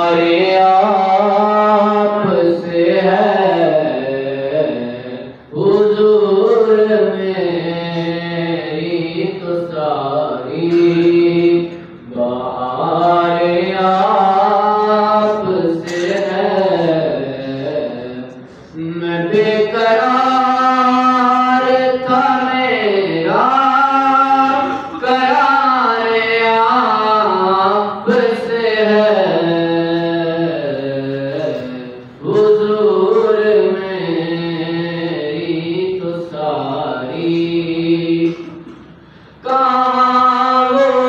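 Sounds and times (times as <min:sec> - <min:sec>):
man singing unaccompanied: 0:00.0 - 0:38.8, 0:39.4 - 0:41.0.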